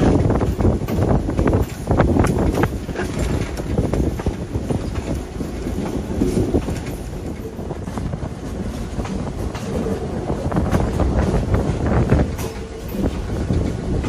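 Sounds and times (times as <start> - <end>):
locomotive engine rumble: 0.0 - 14.0
wheels clicking over rails: 0.0 - 14.0.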